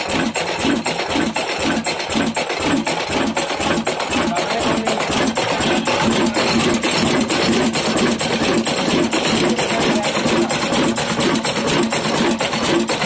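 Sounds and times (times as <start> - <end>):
stationary diesel engine running: 0.0 - 13.0.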